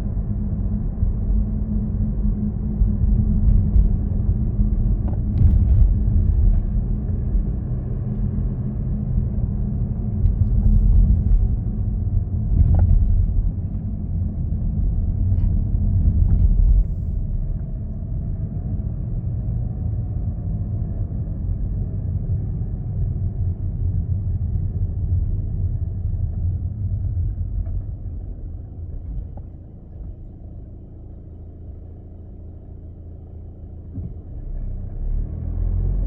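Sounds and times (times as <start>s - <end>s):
car driving low rumble: 0.0s - 36.0s.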